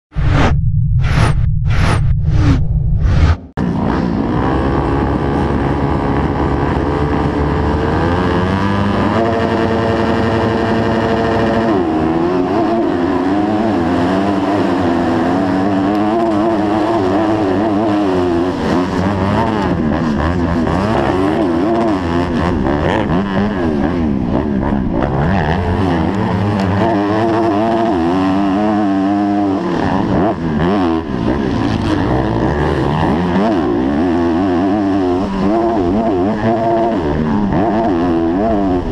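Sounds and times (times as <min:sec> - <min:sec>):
motocross bike engine revving: 0:03.2 - 0:38.9.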